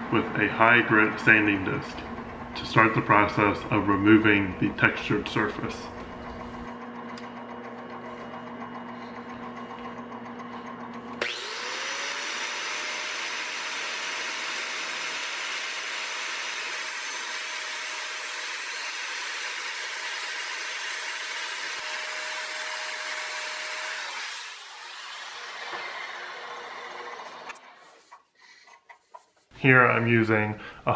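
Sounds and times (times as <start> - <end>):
angle grinder whine: 0.0 - 28.0
metal lathe humming: 0.8 - 28.0.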